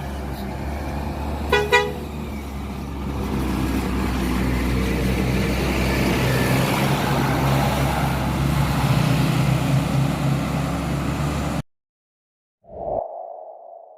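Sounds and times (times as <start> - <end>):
bus engine running: 0.0 - 11.6.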